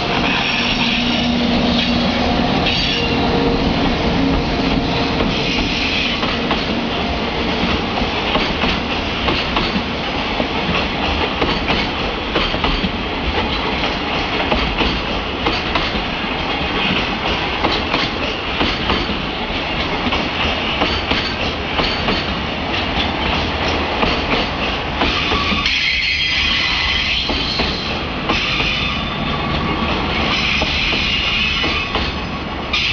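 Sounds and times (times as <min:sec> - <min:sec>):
train rolling roar: 0:00.0 - 0:32.9
train wheels clattering over rails: 0:00.1 - 0:32.9.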